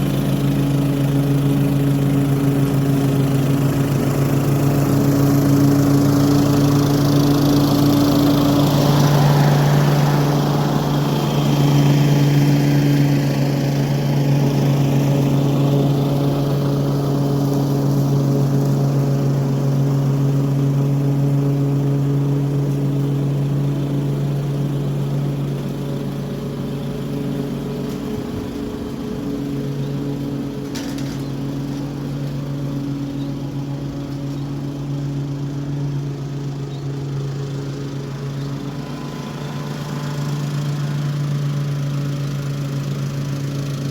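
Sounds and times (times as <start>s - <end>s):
lawn mower cutting grass: 0.0s - 43.9s.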